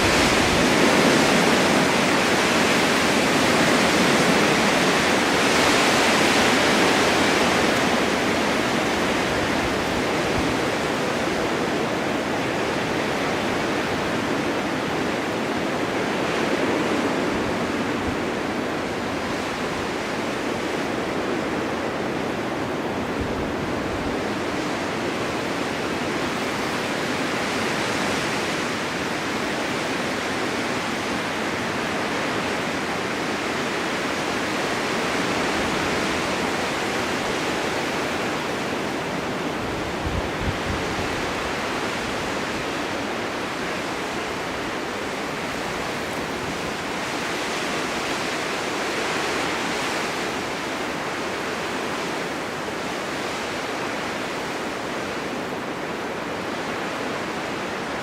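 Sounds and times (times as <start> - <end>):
blizzard wind rushing hiss: 0.0 - 58.0.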